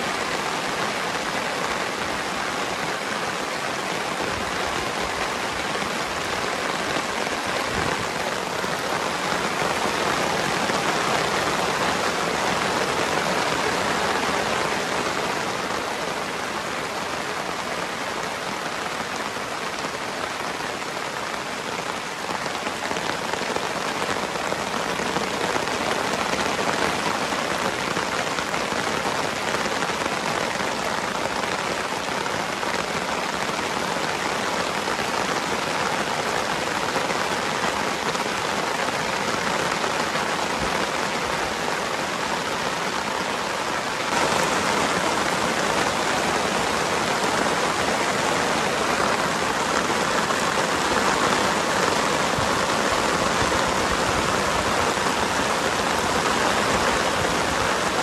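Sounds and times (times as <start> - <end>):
heavy rain on wet grass: 0.0 - 58.0.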